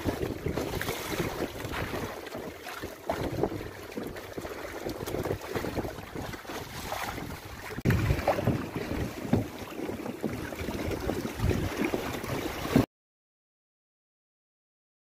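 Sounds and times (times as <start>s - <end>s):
wind buffeting microphone: 0.0s - 12.8s
water splashing against hull: 0.0s - 12.9s.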